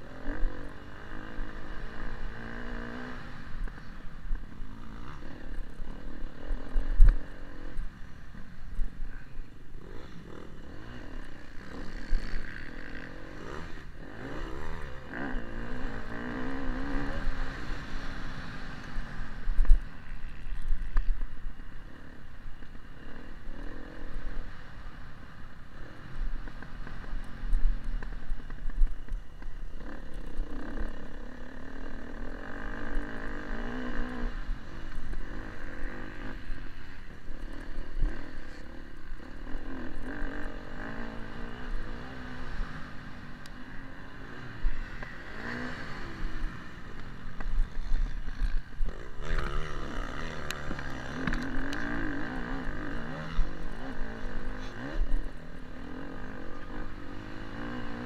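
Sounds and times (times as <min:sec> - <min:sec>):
dirt bike engine revving: 0:00.0 - 0:20.5, 0:21.8 - 0:58.0.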